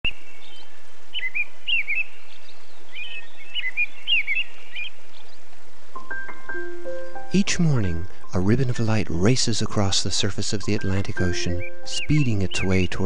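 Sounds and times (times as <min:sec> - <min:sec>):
background hiss: 0:00.1 - 0:13.0
songbirds chirping: 0:00.1 - 0:13.0.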